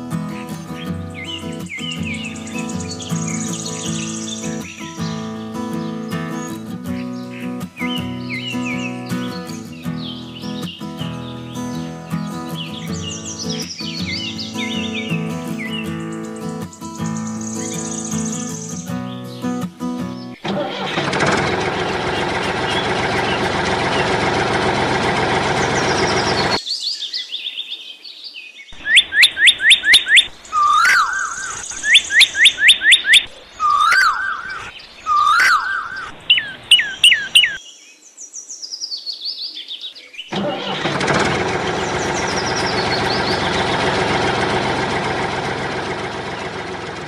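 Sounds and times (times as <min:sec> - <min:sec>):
bird chirping: 0:00.0 - 0:20.5, 0:25.4 - 0:41.0, 0:41.6 - 0:44.0.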